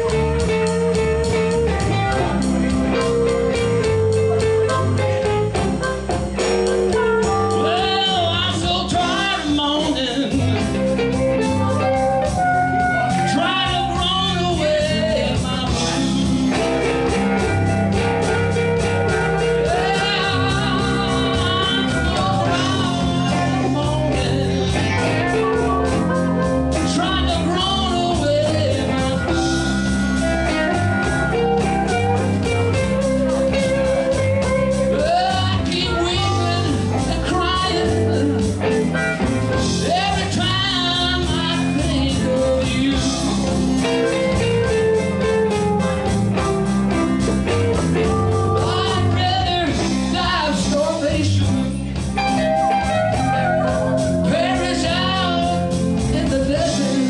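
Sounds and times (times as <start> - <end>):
blues-rock music with guitar: 0.0 - 57.0
person singing: 6.4 - 46.0, 47.8 - 57.0.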